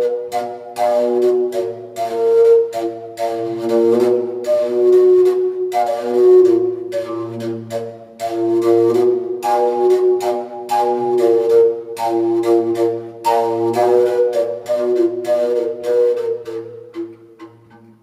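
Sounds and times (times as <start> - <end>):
flute playing slow melody: 0.0 - 18.0.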